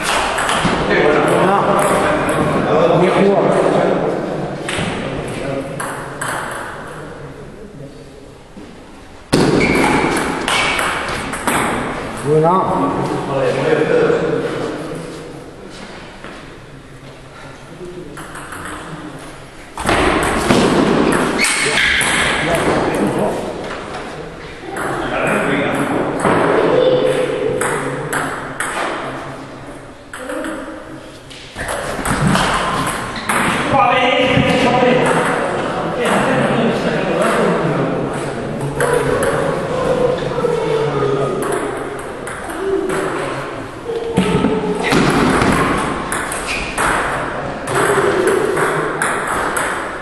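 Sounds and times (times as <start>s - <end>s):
background murmur: 0.0s - 50.0s.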